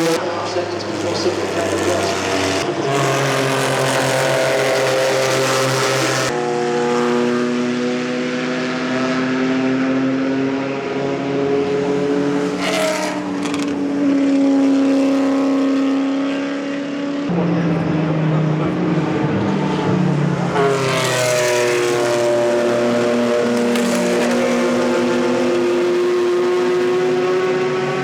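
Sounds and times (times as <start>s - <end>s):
racing car engines passing: 0.0s - 28.0s.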